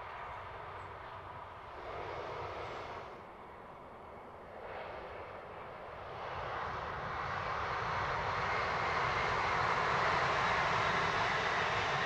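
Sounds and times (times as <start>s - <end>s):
electric train rushing past: 1.6s - 3.8s, 4.4s - 12.0s.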